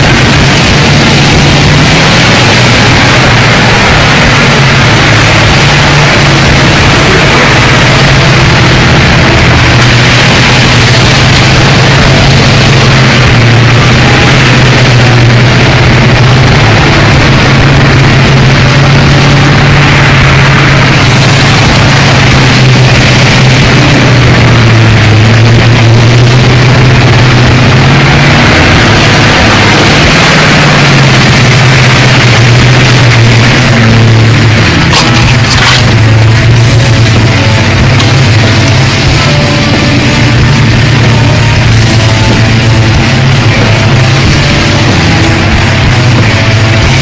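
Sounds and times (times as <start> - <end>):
heavy truck engine running: 0.0 - 47.0
loud heavy metal music: 0.0 - 47.0.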